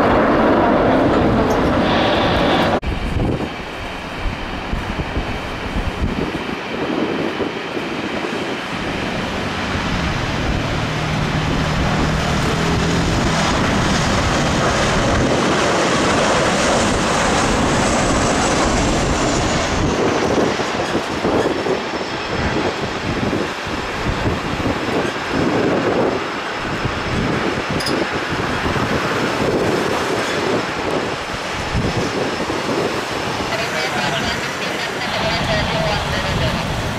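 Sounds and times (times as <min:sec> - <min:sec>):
jet engine roar and fan whine: 0:00.0 - 0:36.9
wind buffeting microphone: 0:00.0 - 0:36.9.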